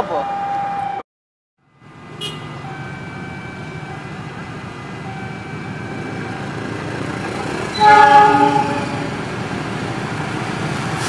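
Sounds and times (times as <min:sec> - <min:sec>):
locomotive low rumble: 0:01.7 - 0:11.0.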